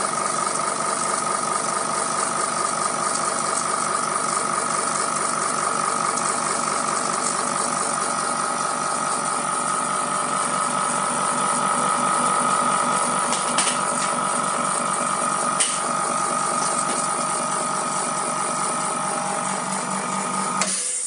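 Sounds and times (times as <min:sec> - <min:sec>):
machine pump humming with pulse: 0:00.0 - 0:21.0.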